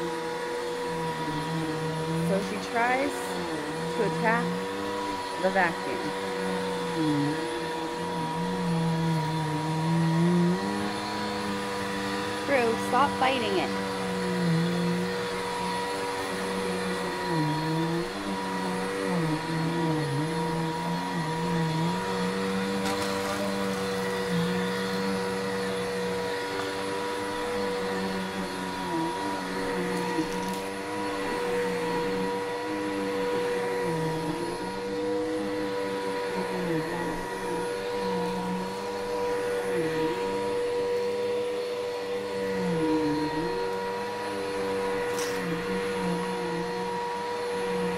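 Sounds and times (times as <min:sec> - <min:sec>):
vacuum cleaner running on carpet: 0:00.0 - 0:47.9.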